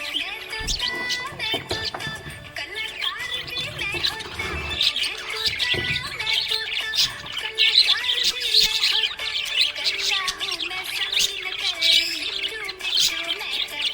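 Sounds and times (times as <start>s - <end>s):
budgerigars chirping and squawking: 0.0s - 13.9s.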